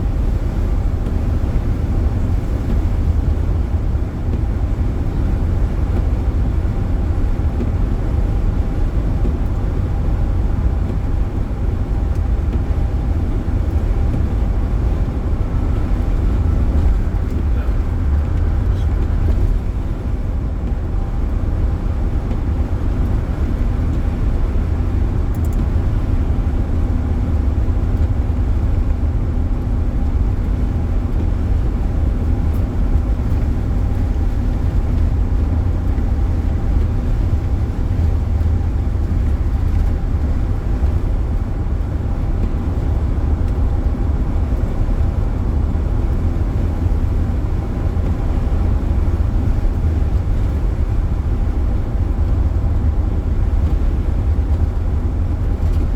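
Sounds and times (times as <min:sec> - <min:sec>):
car driving rumble inside cabin: 0:00.0 - 0:55.9.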